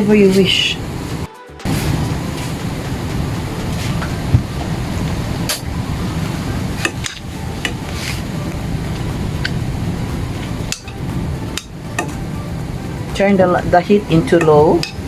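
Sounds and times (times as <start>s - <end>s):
low rumble of frying: 1.0s - 15.0s.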